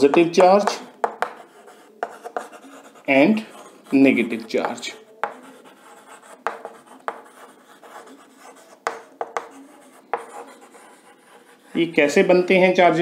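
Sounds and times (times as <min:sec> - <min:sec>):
chalk tapping on board: 0:00.0 - 0:03.1, 0:03.9 - 0:11.8
chalk scratching on chalkboard: 0:00.0 - 0:12.5.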